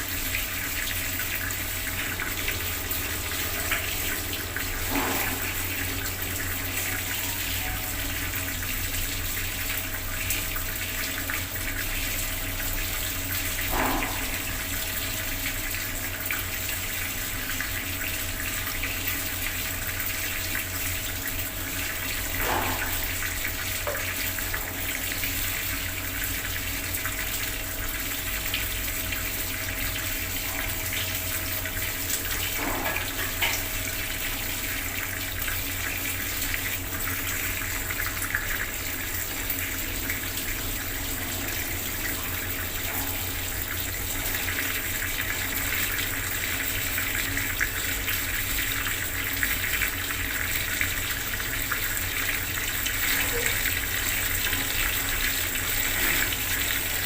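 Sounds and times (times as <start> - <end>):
water tap running: 0.0 - 57.0.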